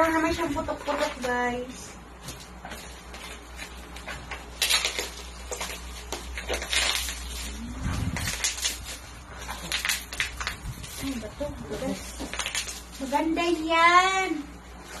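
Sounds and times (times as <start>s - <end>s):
plastic mailer and bubble wrap crinkling: 0.0s - 15.0s.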